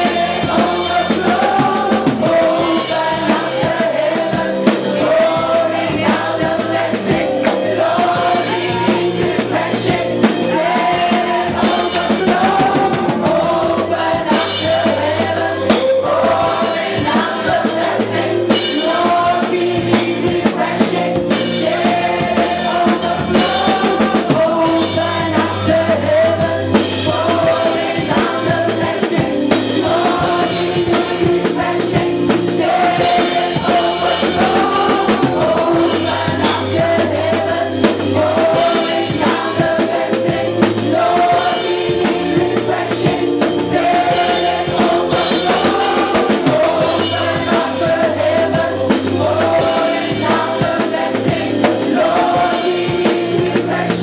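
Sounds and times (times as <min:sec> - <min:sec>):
drum kit beat: 0:00.0 - 0:54.0
held bass notes: 0:00.0 - 0:54.0
voices singing melody: 0:00.0 - 0:54.0.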